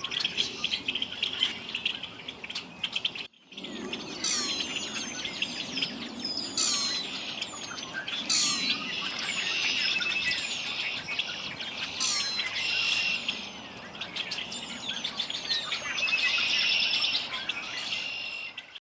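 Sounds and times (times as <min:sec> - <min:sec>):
buzzy bird trills: 0:00.0 - 0:18.6
songbirds chirping: 0:00.0 - 0:18.8.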